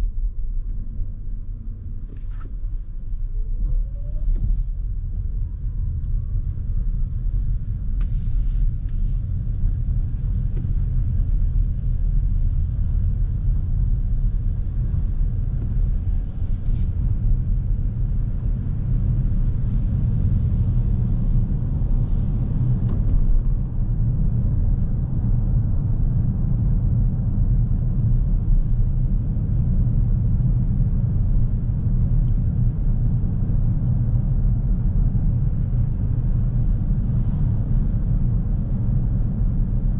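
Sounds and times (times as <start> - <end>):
road and tyre rumble in cabin: 0.0 - 39.9.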